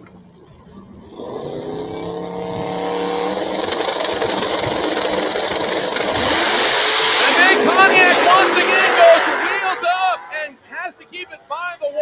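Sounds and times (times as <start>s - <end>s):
race car engines accelerating: 0.4s - 11.5s.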